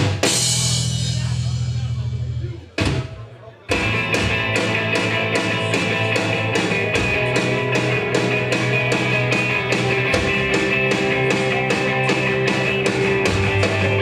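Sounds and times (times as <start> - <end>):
bass guitar: 0.0 - 14.0
distorted electric guitar: 0.0 - 14.0
drums with fast cymbal beat: 0.0 - 14.0.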